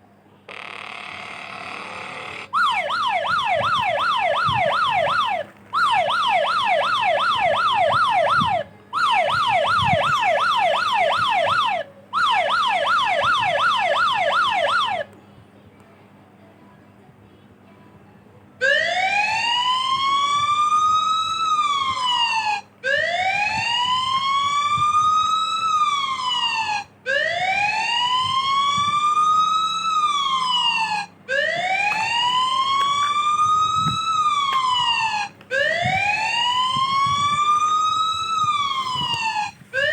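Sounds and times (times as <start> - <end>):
emergency siren wailing: 2.0 - 15.1, 18.6 - 39.9.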